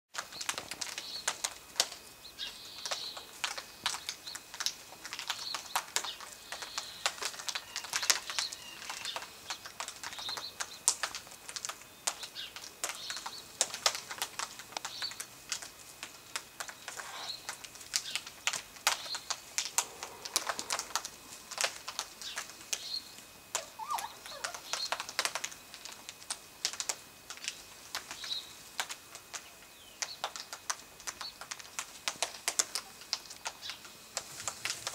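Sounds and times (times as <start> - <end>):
birds cracking seed pods: 0.2 - 34.9.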